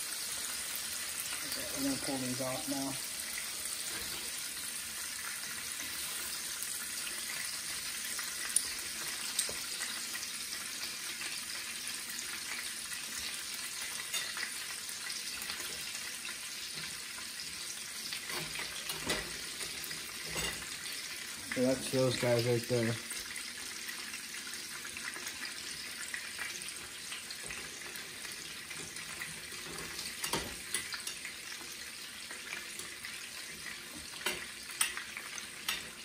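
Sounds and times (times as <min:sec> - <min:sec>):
steak sizzling in hot oil: 0:00.0 - 0:36.0.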